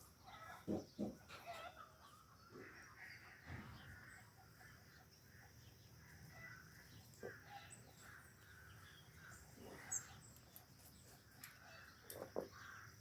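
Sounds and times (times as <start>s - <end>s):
distant bird calls: 0.0s - 13.0s.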